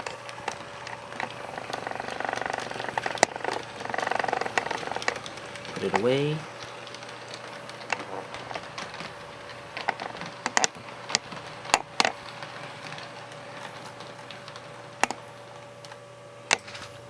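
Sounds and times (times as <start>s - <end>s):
model train hum: 0.0s - 17.0s
sharp clicks of model train: 0.0s - 17.0s.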